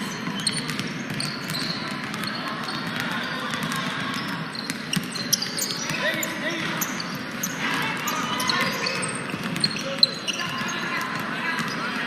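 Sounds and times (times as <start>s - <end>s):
shoe squeaks: 0.0s - 3.6s, 4.2s - 12.0s
basketball bouncing on gym floor: 0.0s - 12.0s
gym background noise: 0.0s - 12.0s.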